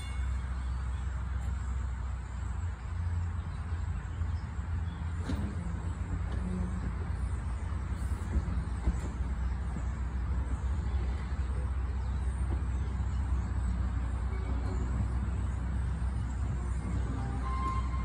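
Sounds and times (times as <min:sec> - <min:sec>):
streetcar rumbling along track: 0:00.0 - 0:18.0.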